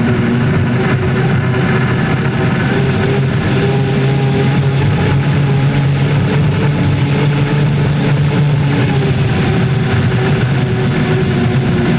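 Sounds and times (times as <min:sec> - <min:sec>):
rush of wind and water: 0:00.0 - 0:11.9
turbine engine drone: 0:00.0 - 0:11.9.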